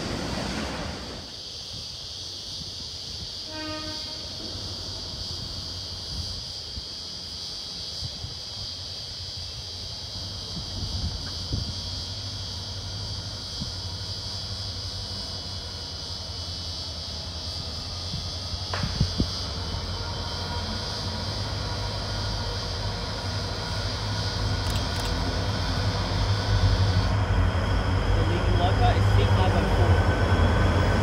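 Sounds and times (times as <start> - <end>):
freight train rumble: 0.0 - 31.0
insects buzzing: 0.0 - 31.0.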